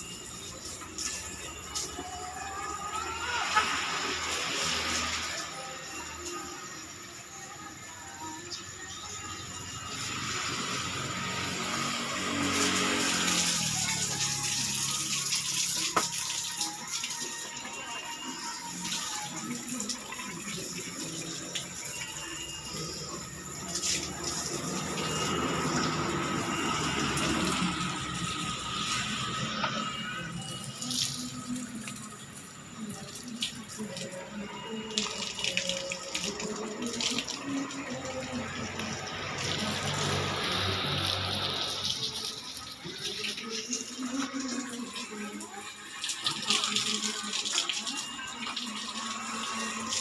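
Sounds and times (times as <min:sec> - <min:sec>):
water spraying on motorcycle: 0:00.0 - 0:50.0.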